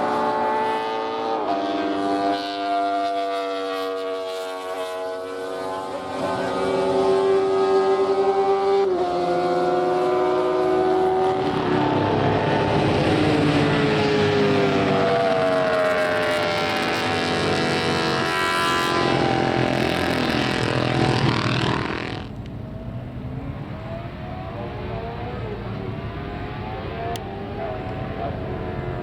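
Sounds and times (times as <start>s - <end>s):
racing motorcycle engines revving: 0.0s - 29.0s.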